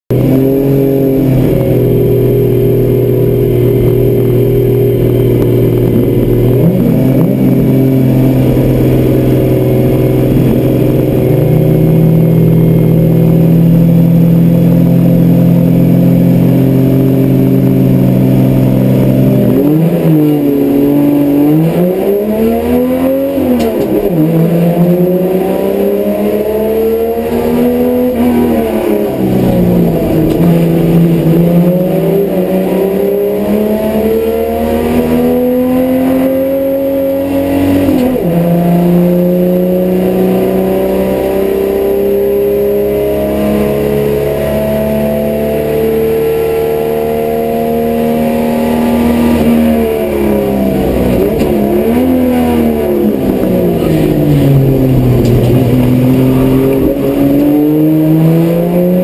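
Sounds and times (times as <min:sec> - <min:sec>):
race car engine revving: 0:00.1 - 0:59.0.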